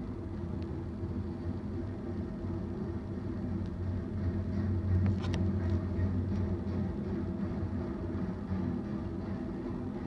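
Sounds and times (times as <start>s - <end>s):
freight train rumble: 0.0s - 10.0s.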